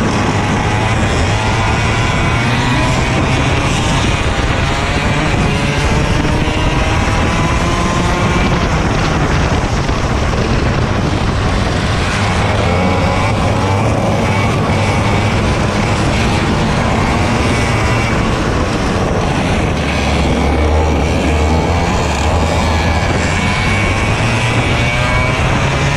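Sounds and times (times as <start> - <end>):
kart engine: 0.0 - 25.9
wind noise on microphone: 0.0 - 25.9.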